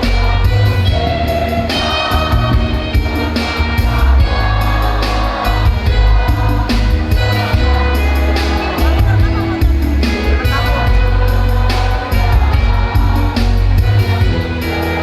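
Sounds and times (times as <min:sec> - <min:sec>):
choir singing with accompaniment: 0:00.0 - 0:15.0
heavy low bass: 0:00.0 - 0:15.0.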